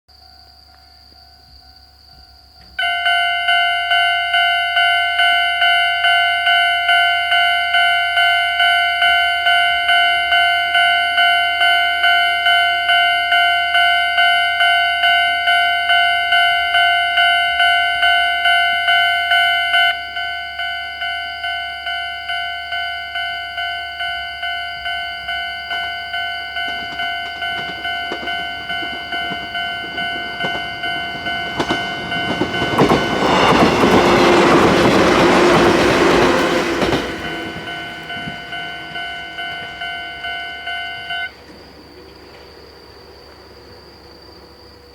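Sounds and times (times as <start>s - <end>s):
level crossing alarm bell: 1.2s - 41.4s
approaching train: 1.4s - 44.9s.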